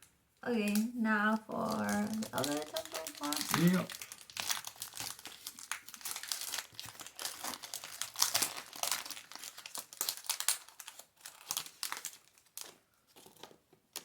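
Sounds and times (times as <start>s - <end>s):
foil wrapper crinkling and tearing: 1.6s - 14.0s.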